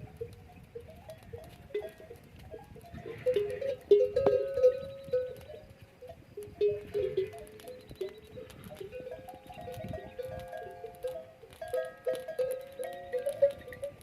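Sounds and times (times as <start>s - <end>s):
camel bells clinking: 0.0s - 14.0s
wind rumbling on microphone: 0.0s - 14.0s.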